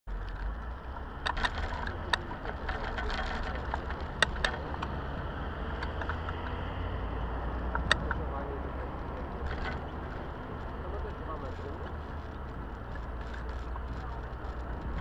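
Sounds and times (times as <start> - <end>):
wind and tyres rumbling: 0.0 - 15.0
bike clicks and rattles: 0.1 - 7.0, 7.7 - 15.0.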